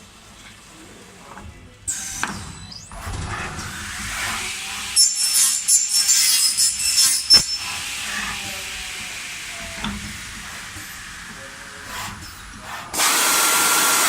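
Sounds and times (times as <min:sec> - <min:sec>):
machine running: 0:00.7 - 0:14.0
machine cutting with whine: 0:01.9 - 0:14.0
sharp machine clack: 0:01.9 - 0:14.0.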